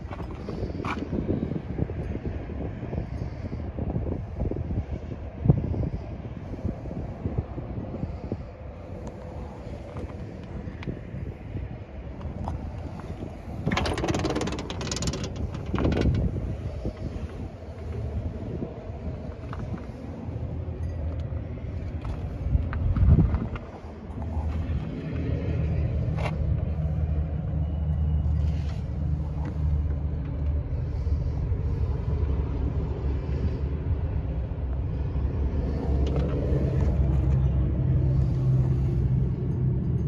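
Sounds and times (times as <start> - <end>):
droning hum: 0.0 - 40.0
low machinery rumble: 0.0 - 40.0.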